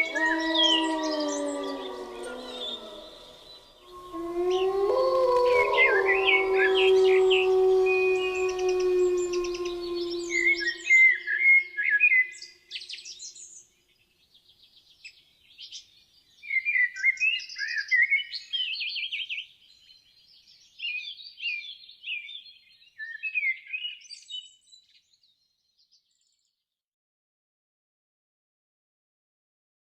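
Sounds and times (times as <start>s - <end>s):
songbird chirping and warbling: 0.0s - 26.5s.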